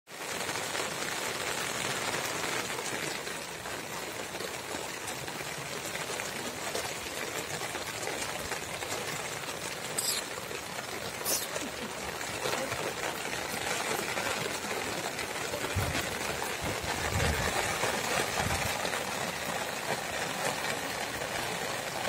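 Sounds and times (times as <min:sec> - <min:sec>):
heavy rain on wet ground: 0:00.1 - 0:22.0.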